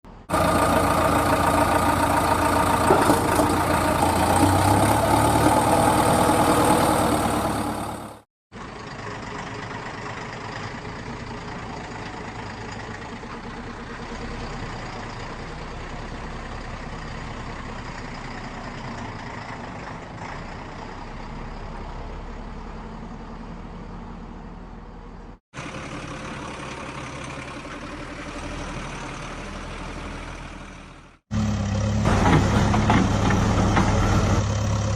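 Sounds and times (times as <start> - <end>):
vehicle engine running: 0.1 - 34.9.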